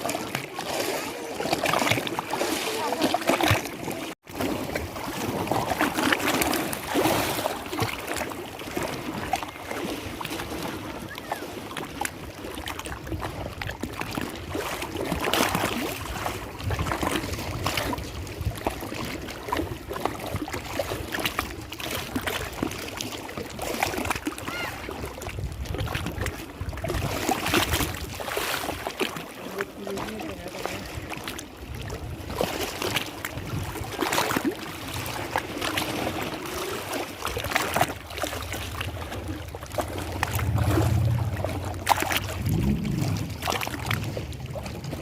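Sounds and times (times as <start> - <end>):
lake water sloshing and splashing: 0.0 - 45.0.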